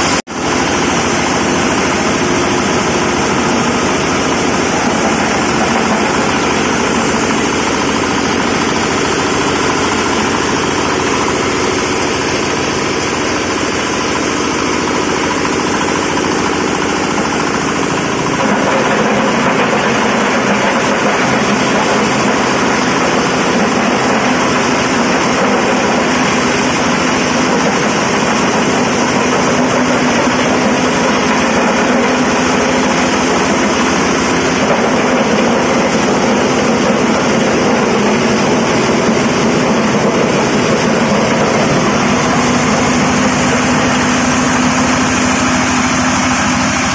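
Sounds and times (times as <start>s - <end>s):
corn grinding machine running: 0.0s - 46.9s.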